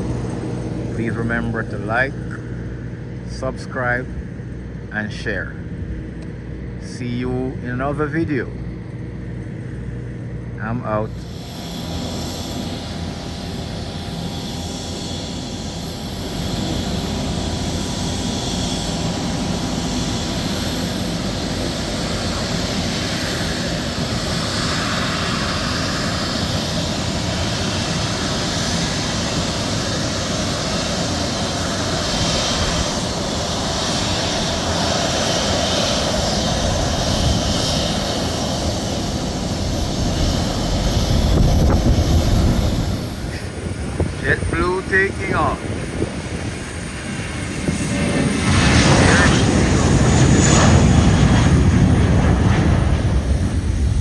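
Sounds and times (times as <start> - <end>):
airliner engines rushing: 0.0 - 54.0.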